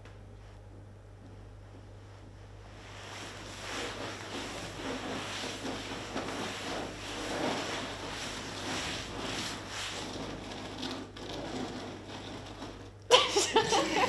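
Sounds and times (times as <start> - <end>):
cloth bag rubbed and squeezed: 2.7 - 14.0.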